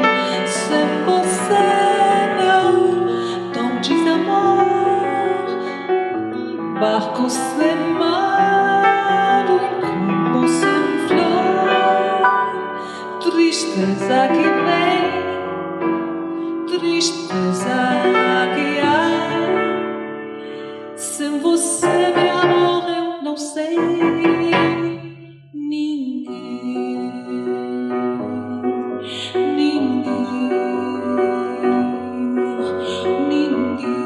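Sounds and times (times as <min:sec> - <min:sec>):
piano playing: 0:00.0 - 0:25.5, 0:26.3 - 0:34.0.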